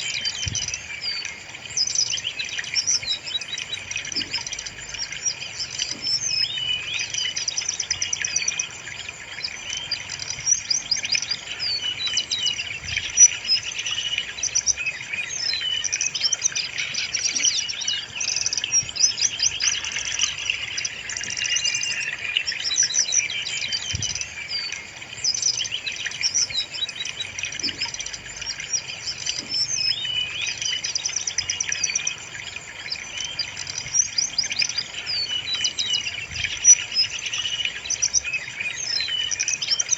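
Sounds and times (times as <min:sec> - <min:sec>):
bird singing rapid chirps and trills: 0:00.0 - 0:39.9.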